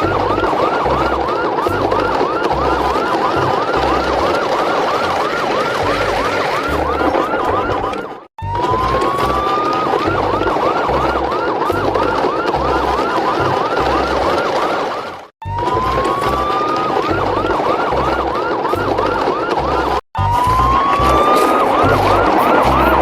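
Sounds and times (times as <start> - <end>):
police siren wailing and yelping: 0.0 - 23.0.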